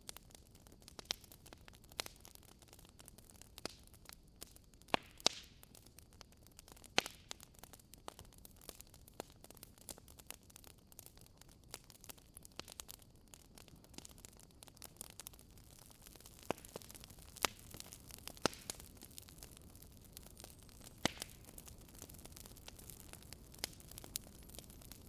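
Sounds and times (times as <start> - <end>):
faint fire hiss: 0.0 - 25.0
wood fire crackling and popping: 0.0 - 25.0.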